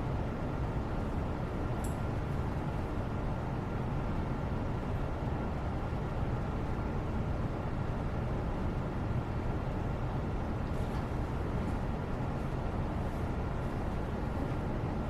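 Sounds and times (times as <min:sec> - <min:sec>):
low white noise: 0:00.0 - 0:15.0.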